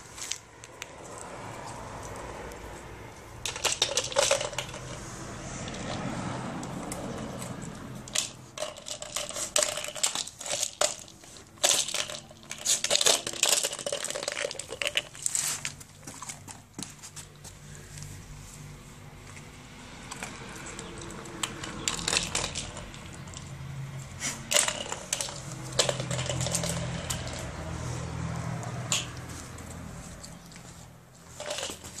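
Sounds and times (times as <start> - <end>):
treat ball rattling on concrete: 3.4 - 17.5, 19.8 - 32.0.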